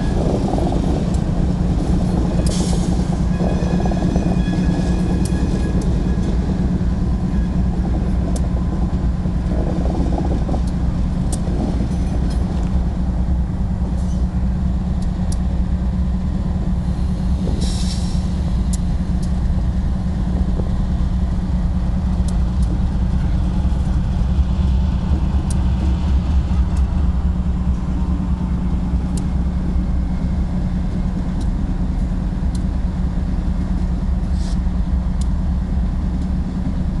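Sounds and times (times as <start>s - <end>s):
diesel locomotive engine rumbling: 0.0s - 37.0s.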